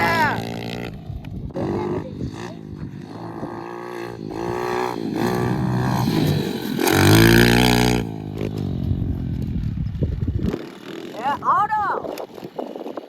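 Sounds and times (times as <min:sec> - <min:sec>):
pit bike engine revving: 0:00.0 - 0:12.8.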